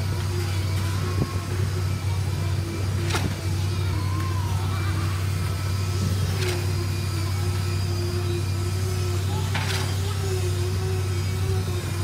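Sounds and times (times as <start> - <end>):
diesel engine low drone: 0.0 - 12.0.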